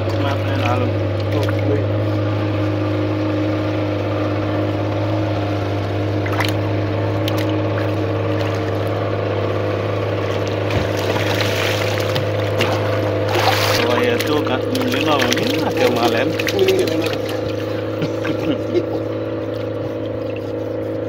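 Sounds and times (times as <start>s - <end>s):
boat motor humming: 0.0s - 21.0s
water splashing: 0.0s - 21.0s.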